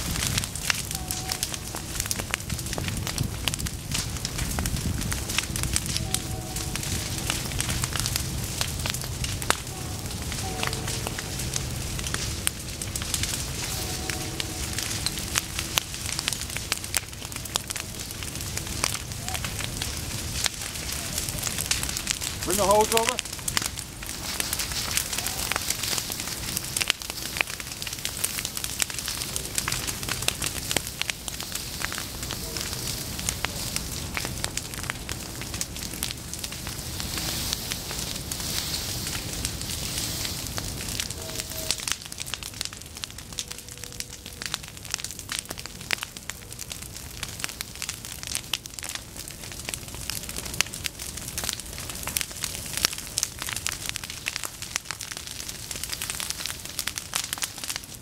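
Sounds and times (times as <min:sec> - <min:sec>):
fire crackling and popping: 0:00.0 - 0:58.0
fire hissing: 0:00.0 - 0:58.0.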